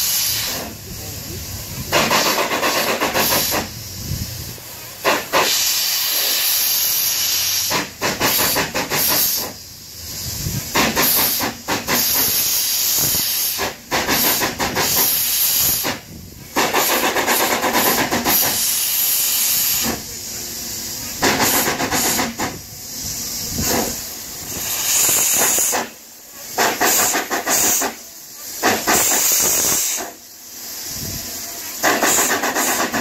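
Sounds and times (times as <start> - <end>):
steam locomotive hissing steam: 0.0 - 33.0.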